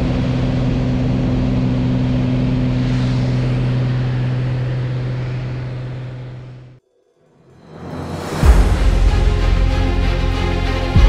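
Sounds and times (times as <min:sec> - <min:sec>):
aircraft engine droning: 0:00.0 - 0:11.0.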